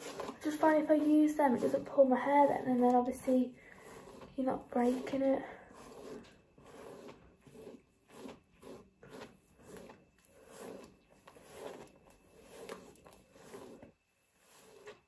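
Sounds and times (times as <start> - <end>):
hairbrush brushing hair: 0.0 - 15.0.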